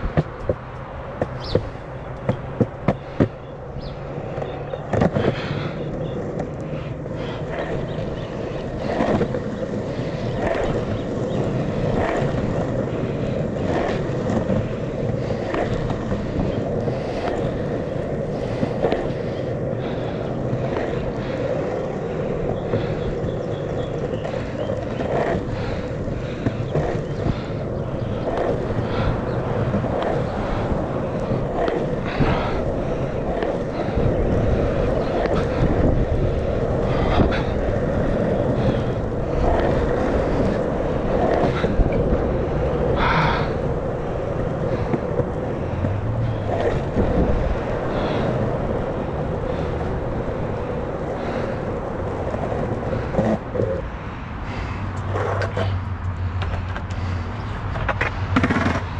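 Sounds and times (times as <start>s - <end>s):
skateboard wheels rolling on asphalt: 0.0s - 58.9s.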